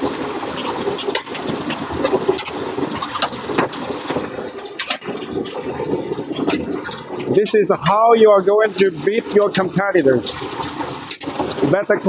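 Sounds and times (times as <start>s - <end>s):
ice tubes clattering into metal hopper: 0.0s - 12.0s
steady machine hum: 0.0s - 12.0s.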